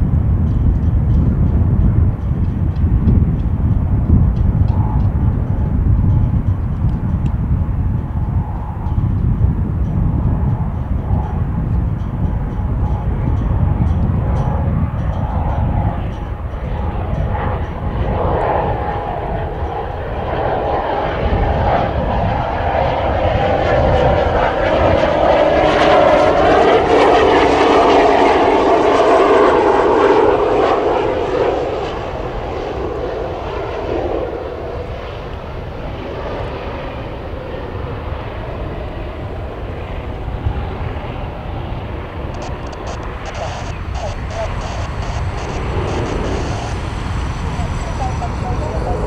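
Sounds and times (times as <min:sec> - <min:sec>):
turboprop engine whine: 0:00.0 - 0:49.0.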